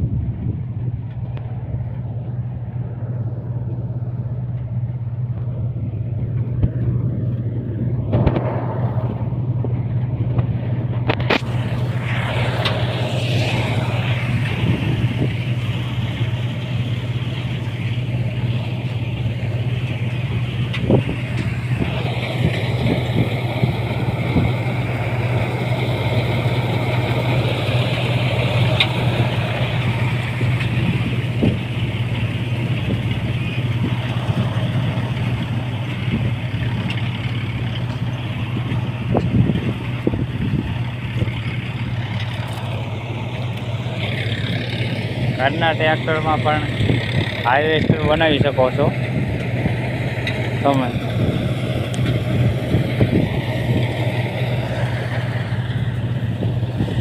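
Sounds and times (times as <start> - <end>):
harvester engine running: 0.0 - 57.0.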